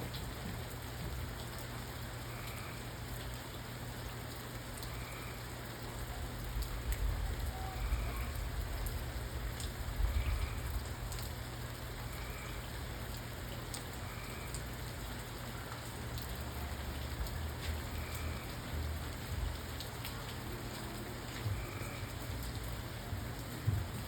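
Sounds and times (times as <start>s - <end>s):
raindrops ticking sharply: 0.0s - 24.0s
steady rain falling: 0.0s - 24.0s.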